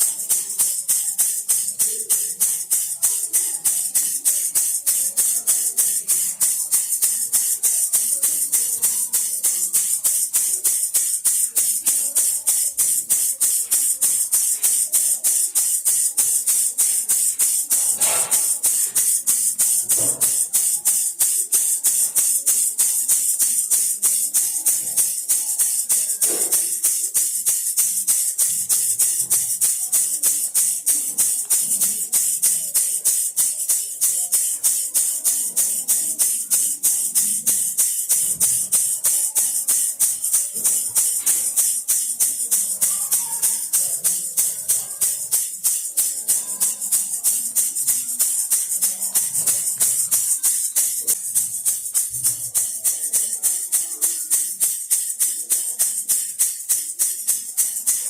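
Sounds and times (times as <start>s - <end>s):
baby rattle shaken: 0.0s - 58.0s.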